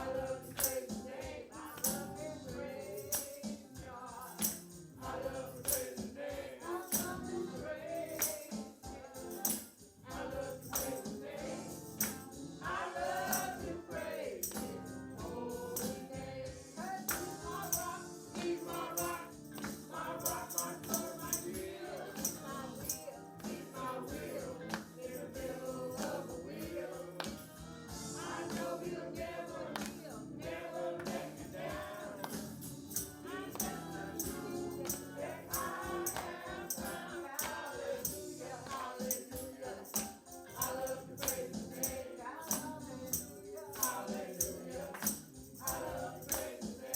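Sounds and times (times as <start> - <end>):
group singing gospel song: 0.0 - 46.9
tambourine beat: 0.0 - 46.9.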